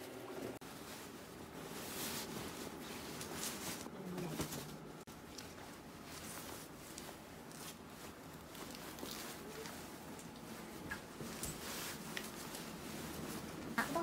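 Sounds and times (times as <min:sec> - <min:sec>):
pillowcases rustling: 0:00.6 - 0:14.0.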